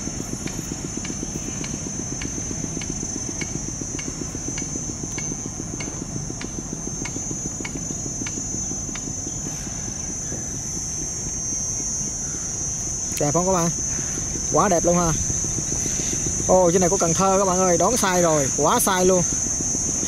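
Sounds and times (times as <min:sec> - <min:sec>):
diesel boat engine throbbing: 0:00.0 - 0:20.0
high-pitched insect buzz: 0:00.0 - 0:20.0.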